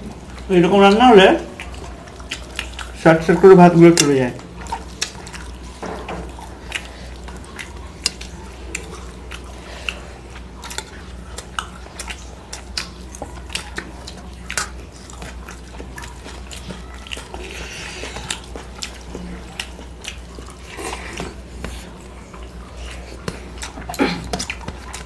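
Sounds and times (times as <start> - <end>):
chewing and lip smacks: 0.0 - 25.0
low steady hum: 0.0 - 25.0.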